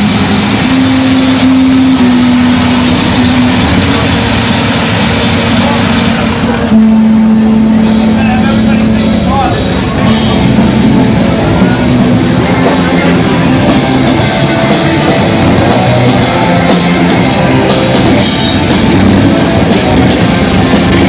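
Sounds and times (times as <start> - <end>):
rock music with drums and guitar: 0.0 - 21.0.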